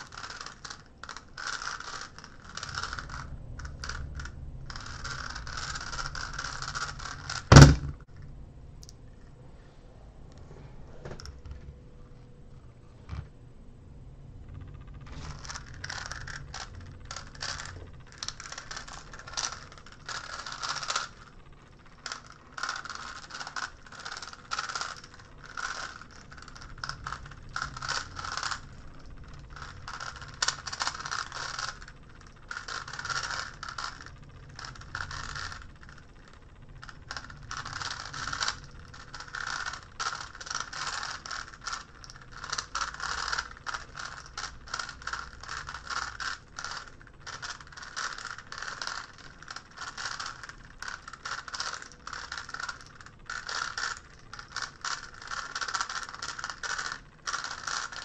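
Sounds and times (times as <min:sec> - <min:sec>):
plastic puzzle cube clicking: 0:00.0 - 0:08.0, 0:15.3 - 0:21.3, 0:22.0 - 0:36.0, 0:36.8 - 0:58.0.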